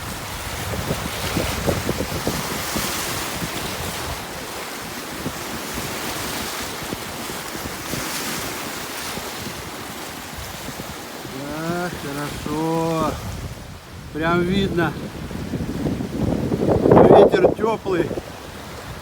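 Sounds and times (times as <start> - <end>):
lake waves washing onto shore: 0.0 - 19.0
wind buffeting microphone: 0.0 - 19.0.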